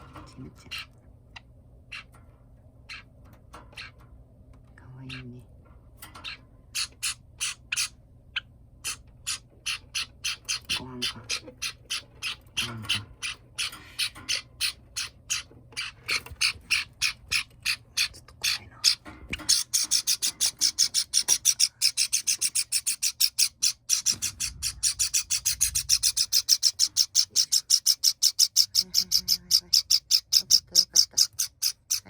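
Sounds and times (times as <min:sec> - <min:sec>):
young bird cheeping: 0:06.2 - 0:32.0.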